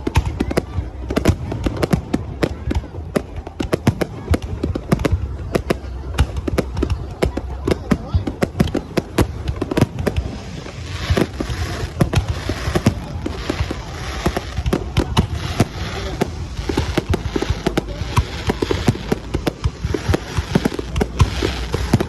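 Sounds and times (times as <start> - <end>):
continuous background din: 0.0 - 22.0
fireworks bangs and pops: 0.0 - 22.0.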